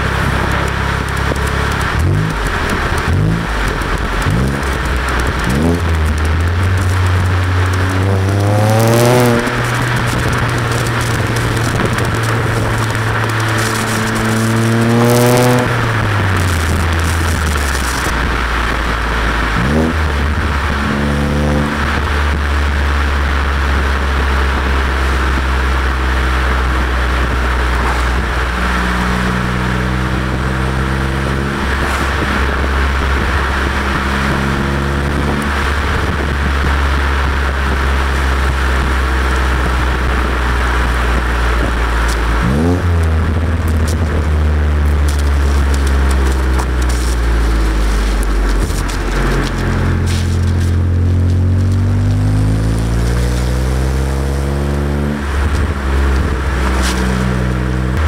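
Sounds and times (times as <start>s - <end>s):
car engine revving: 0.0s - 58.0s
wind rush on microphone: 0.0s - 58.0s.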